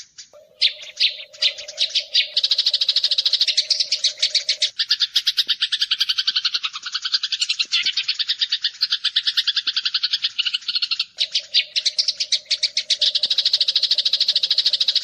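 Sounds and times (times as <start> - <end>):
sparrows chattering: 0.0 - 15.0.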